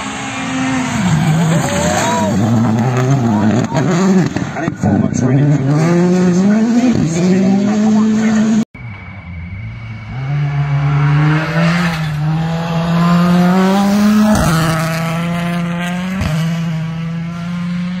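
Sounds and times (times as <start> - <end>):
rally car accelerating: 0.0 - 18.0.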